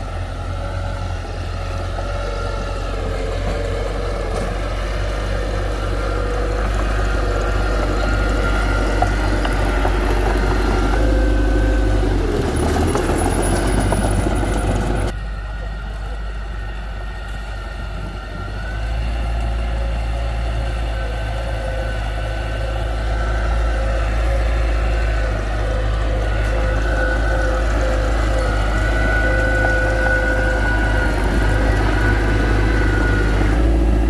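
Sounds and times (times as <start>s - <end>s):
heavy diesel machinery rumbling: 0.0s - 34.0s
steady tones: 0.0s - 34.0s.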